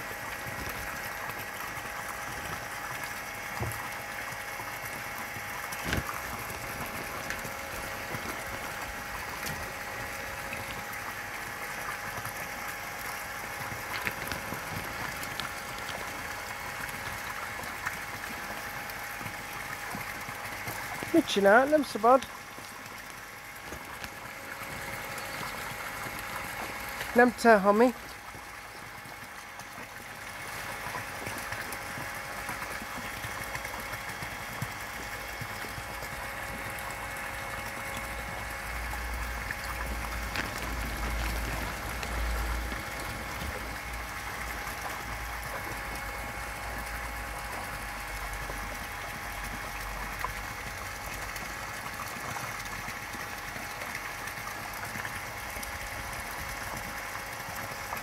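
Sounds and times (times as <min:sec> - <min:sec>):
faint mechanical hum: 0:00.0 - 0:58.0
pond pump bubbling water: 0:00.0 - 0:58.0.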